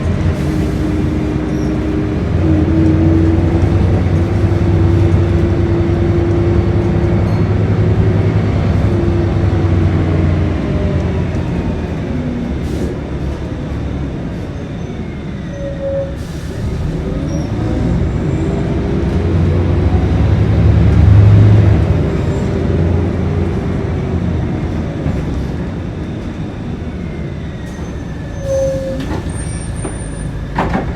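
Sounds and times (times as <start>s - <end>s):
bus engine running: 0.0s - 30.9s.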